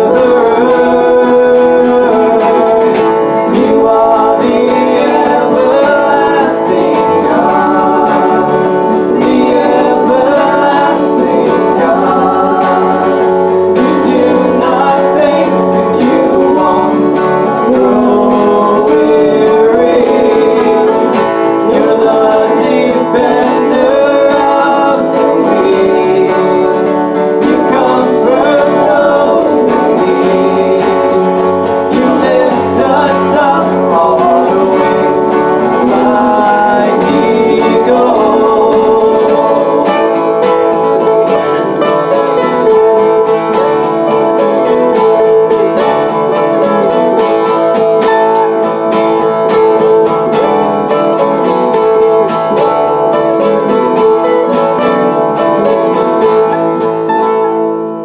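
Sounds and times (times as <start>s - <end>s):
acoustic guitar strumming and picking: 0.0s - 58.0s.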